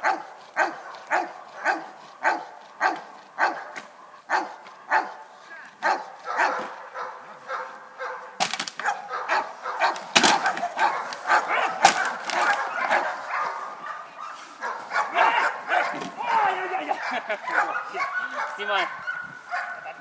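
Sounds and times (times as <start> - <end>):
dog barking excitedly: 0.0 - 20.0.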